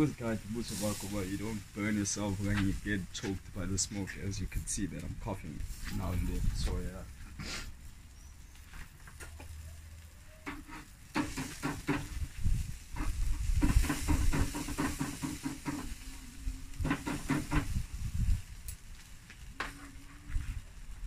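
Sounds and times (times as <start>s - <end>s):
chicken sizzling and crackling on grill: 0.0s - 21.0s.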